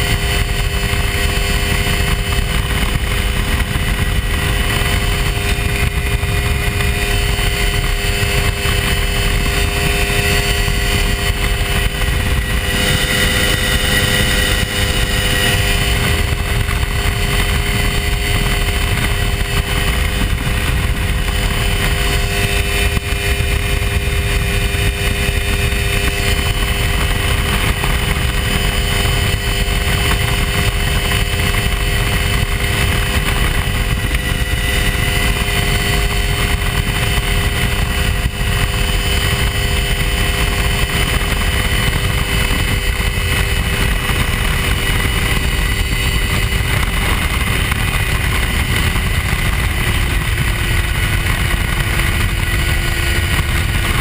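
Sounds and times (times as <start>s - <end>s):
light aircraft engine droning: 0.0s - 54.0s.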